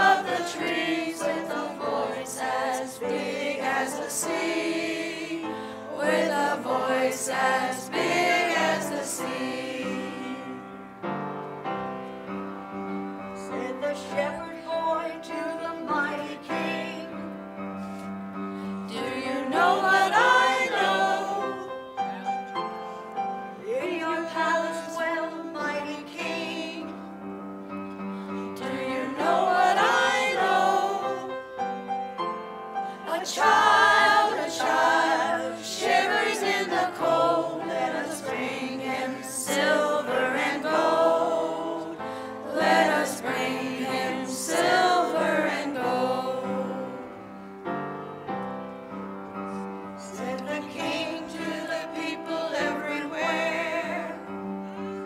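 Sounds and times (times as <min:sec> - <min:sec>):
mixed choir singing: 0:00.0 - 0:11.2, 0:13.3 - 0:17.4, 0:18.6 - 0:27.6, 0:28.2 - 0:32.1, 0:32.8 - 0:47.5, 0:49.5 - 0:55.0.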